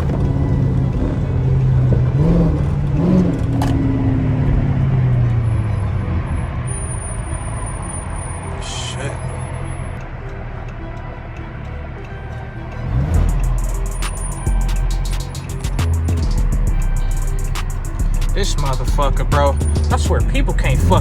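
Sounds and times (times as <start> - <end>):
car exhaust droning: 0.0 - 21.0.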